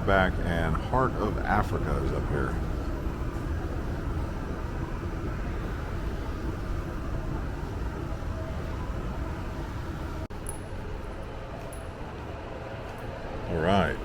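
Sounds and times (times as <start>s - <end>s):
faint hum: 0.0s - 14.0s
low background rumble: 0.0s - 14.0s.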